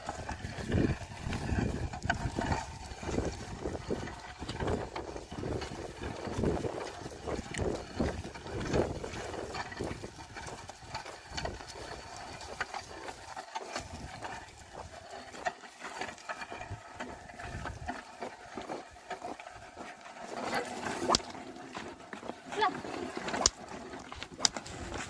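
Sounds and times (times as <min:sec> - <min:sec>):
hooves and plough thudding: 0:00.0 - 0:25.0.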